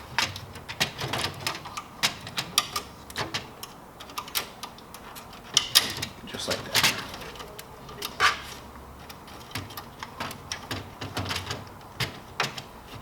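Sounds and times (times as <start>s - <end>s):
clicks of plastic panels: 0.0s - 13.0s.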